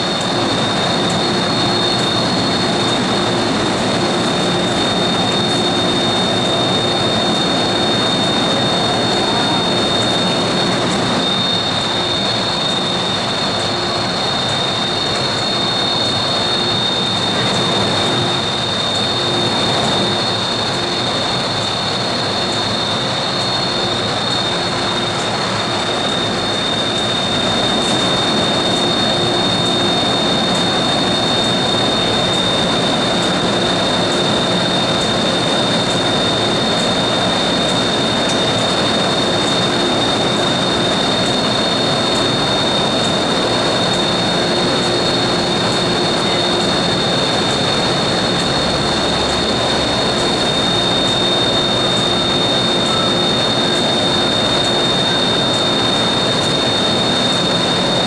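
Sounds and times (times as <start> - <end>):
high-pitched whines: 0.0 - 58.0
train equipment roar: 0.0 - 58.0.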